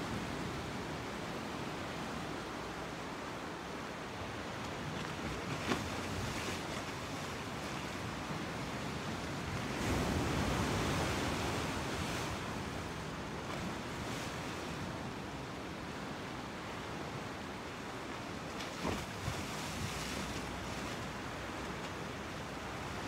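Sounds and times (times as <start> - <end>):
ocean waves washing: 0.0 - 23.0.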